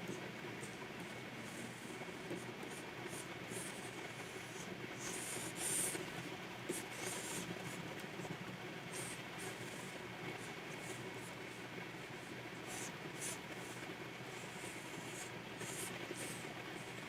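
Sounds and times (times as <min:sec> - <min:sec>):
pen scratching on tablet: 0:01.4 - 0:17.0.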